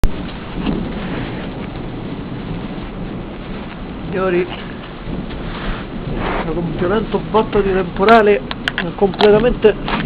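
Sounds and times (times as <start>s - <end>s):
low rumble of thunder: 0.0s - 10.0s
steady rain falling: 0.0s - 10.0s.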